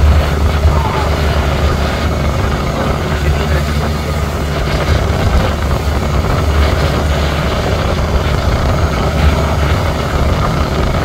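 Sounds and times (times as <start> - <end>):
boat engine droning: 0.0 - 11.0
water washing: 0.0 - 11.0
wind noise: 0.0 - 11.0.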